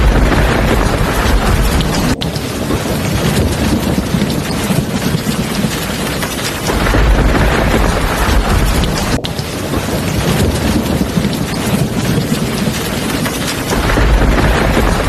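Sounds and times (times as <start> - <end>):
heavy rain hissing: 0.0 - 15.0
thunder rumble: 0.0 - 15.0.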